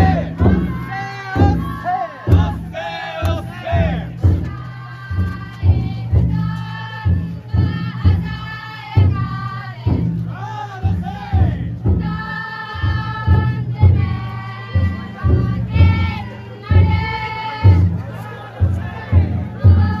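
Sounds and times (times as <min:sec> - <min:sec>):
drum beating: 0:00.0 - 0:20.0
group chant-singing: 0:00.0 - 0:20.0.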